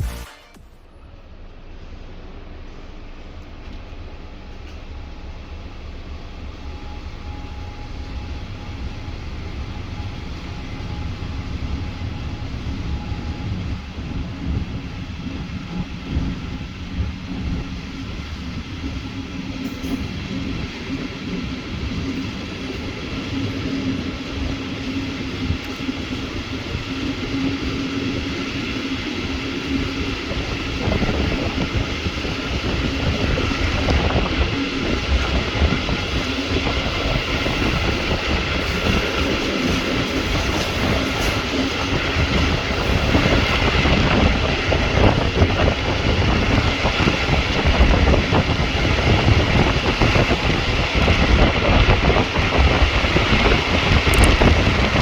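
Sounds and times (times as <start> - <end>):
train wheels rumbling on rails: 0.6 - 55.0.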